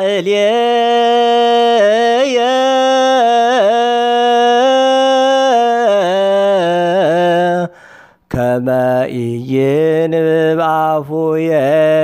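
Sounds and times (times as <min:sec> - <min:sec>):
person chanting: 0:00.0 - 0:12.0.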